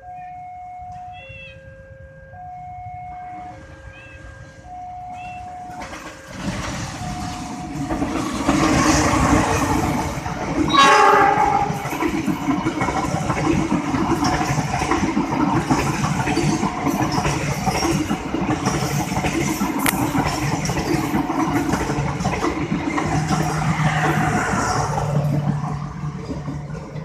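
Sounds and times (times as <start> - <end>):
traffic noise: 0.0 - 27.0.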